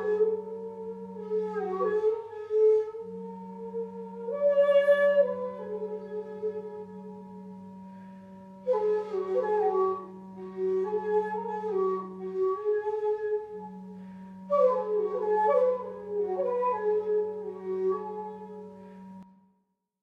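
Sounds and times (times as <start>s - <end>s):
low flute drone: 0.0s - 19.2s
sliding flute melody: 0.0s - 19.2s.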